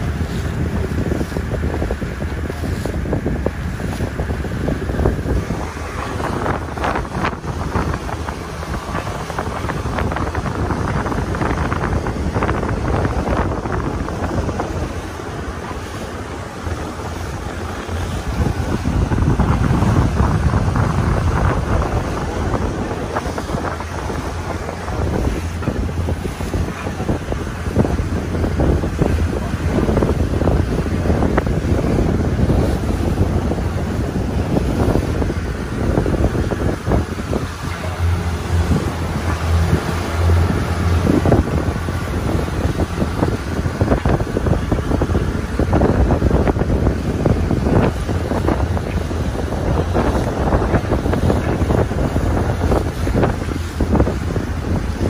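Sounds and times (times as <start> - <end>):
sea wash: 0.0 - 55.0
wind buffeting microphone: 0.0 - 55.0.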